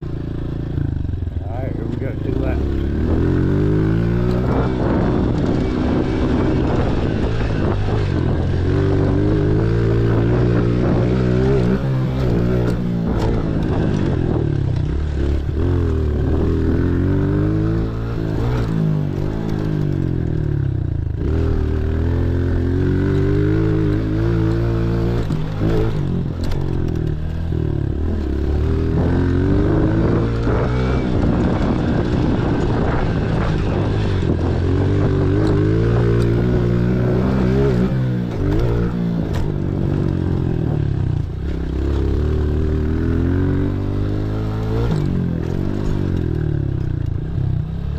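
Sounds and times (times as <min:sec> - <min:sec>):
pit bike engine revving: 0:00.0 - 0:47.9.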